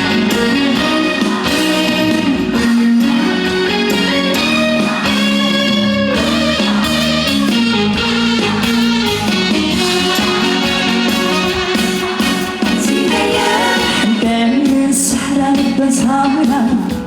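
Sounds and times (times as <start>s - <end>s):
guitar playing melody: 0.0s - 14.7s
live band backing: 0.0s - 17.0s.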